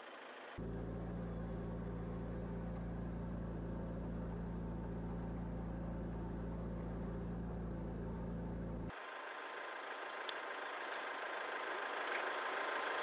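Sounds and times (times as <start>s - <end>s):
vehicle engine low hum: 0.0s - 13.0s.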